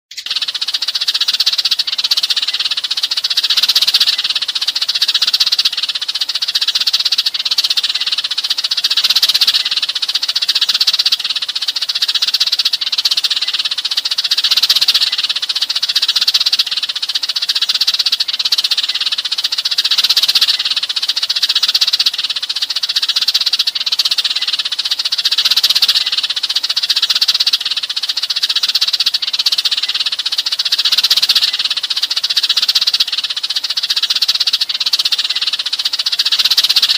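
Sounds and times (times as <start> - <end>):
sparrows chirping: 0.1 - 36.9.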